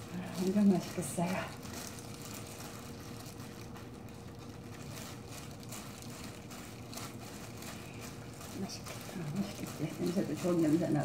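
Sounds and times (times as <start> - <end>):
faint soft crackles: 0.0 - 11.0
plastic glove crinkling: 0.0 - 11.0
rice squishing: 0.0 - 11.0
steady low hum: 0.0 - 11.0.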